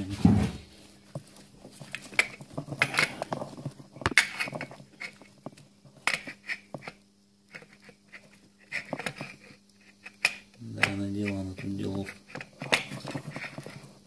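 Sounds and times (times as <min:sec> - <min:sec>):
wires rustling and connectors clicking: 0:01.1 - 0:14.0.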